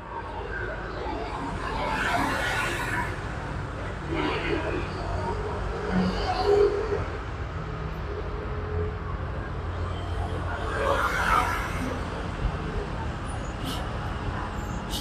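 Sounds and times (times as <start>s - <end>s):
road traffic rumble: 0.2s - 15.0s.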